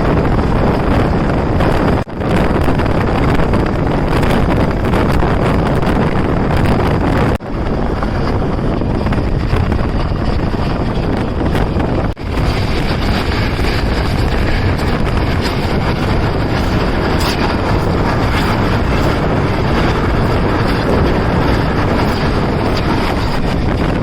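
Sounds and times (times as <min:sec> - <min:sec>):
train running noise: 0:00.0 - 0:24.0
wind rushing on microphone: 0:00.0 - 0:24.0.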